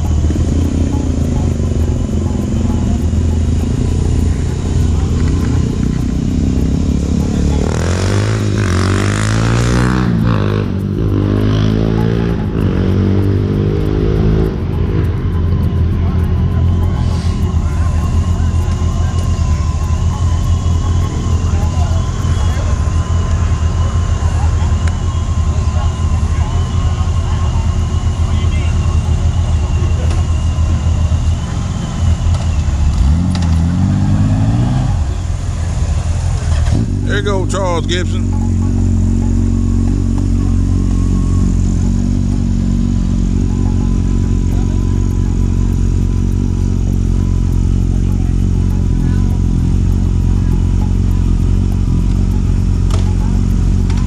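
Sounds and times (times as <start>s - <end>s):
motorcycle engines accelerating: 0.0s - 54.0s.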